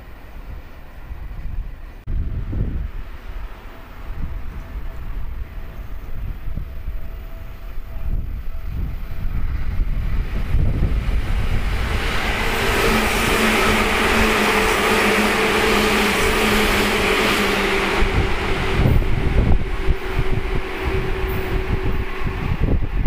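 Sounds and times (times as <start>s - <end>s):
low train hum: 0.0s - 23.0s
train wheels rushing on rail: 0.0s - 23.0s.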